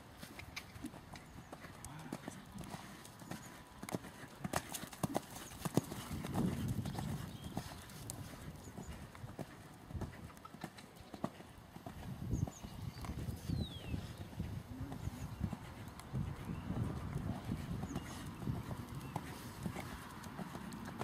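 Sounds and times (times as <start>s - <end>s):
horse hoofbeats on sand: 0.0s - 21.0s.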